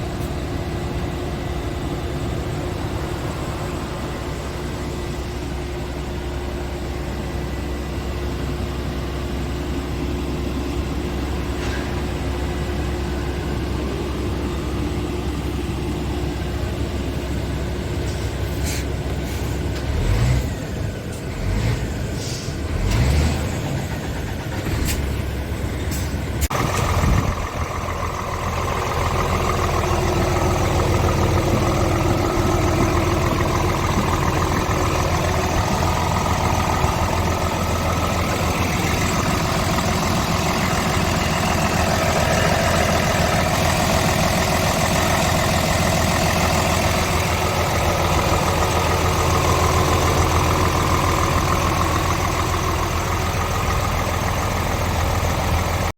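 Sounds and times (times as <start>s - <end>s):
diesel truck engine starting: 0.0s - 55.9s.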